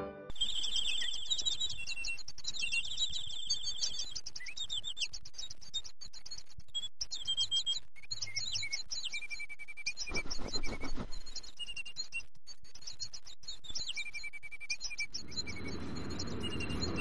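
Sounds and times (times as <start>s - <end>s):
songbirds chirping and twittering: 0.3s - 17.0s.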